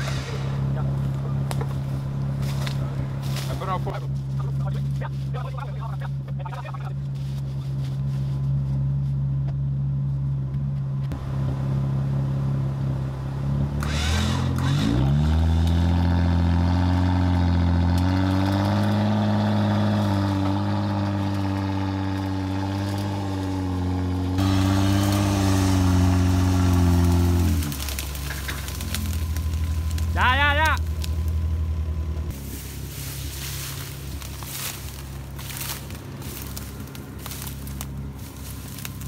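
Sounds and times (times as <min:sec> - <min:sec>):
vehicle engine idling and revving: 0:00.0 - 0:39.0.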